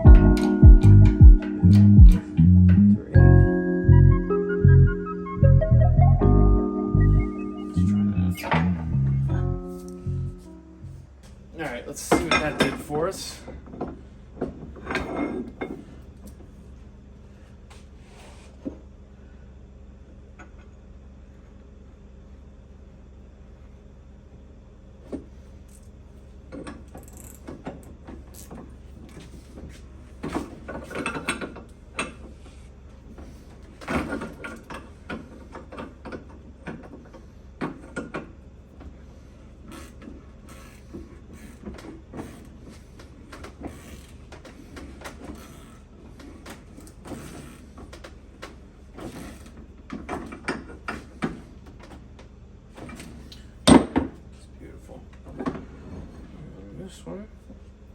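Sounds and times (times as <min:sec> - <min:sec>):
low shop hum: 0:00.0 - 0:57.9.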